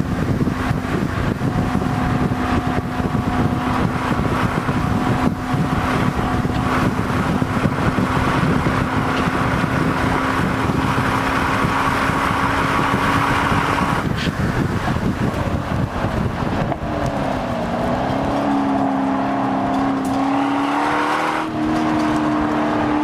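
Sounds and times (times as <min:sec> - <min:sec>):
car engine running hard: 0:00.0 - 0:23.0
wind noise: 0:00.0 - 0:23.0
tyre noise: 0:00.4 - 0:23.0.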